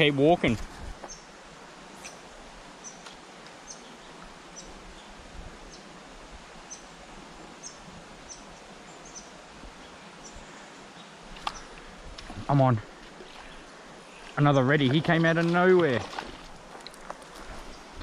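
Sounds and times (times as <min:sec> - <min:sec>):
steady soft hiss: 0:00.0 - 0:18.0.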